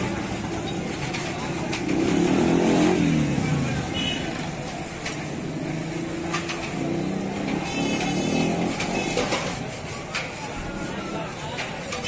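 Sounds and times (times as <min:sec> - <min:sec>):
motorcycle engines passing: 0:00.0 - 0:09.7.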